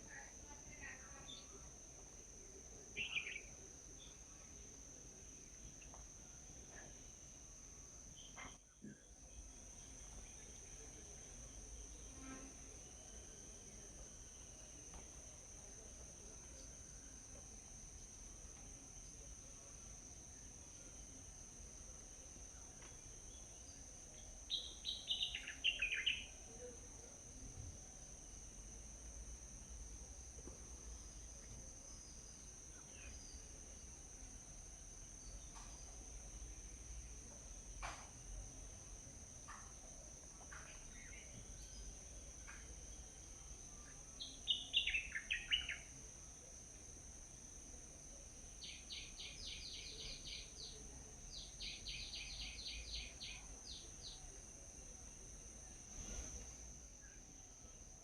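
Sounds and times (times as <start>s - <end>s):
songbird chirps: 0.0s - 7.5s, 8.1s - 28.7s, 29.3s - 57.8s.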